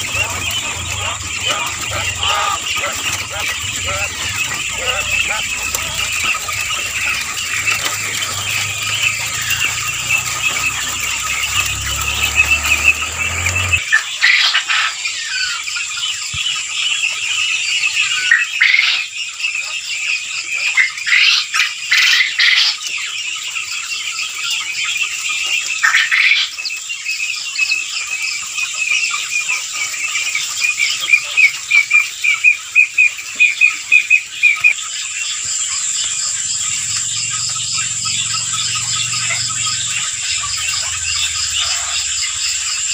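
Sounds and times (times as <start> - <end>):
quail chirping: 0.0 - 42.9
quick repeated bird calls: 0.0 - 42.9.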